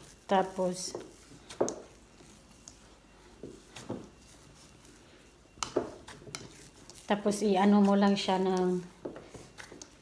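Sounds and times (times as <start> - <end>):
hands kneading dough: 0.0 - 10.0.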